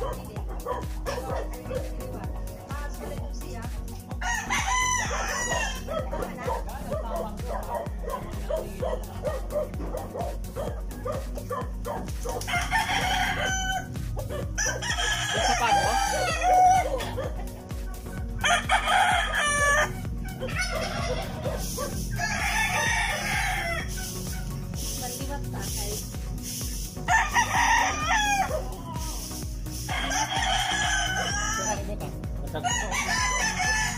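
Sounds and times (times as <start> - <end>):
roosters crowing: 0.0 - 2.9, 3.9 - 33.9.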